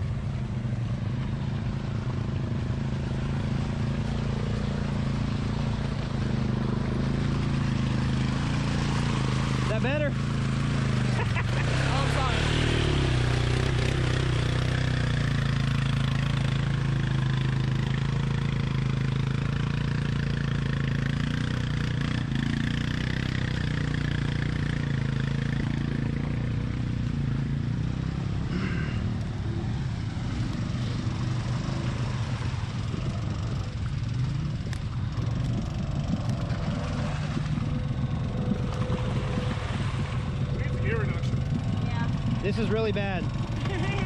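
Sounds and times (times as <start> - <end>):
atv engine running: 0.0 - 44.0.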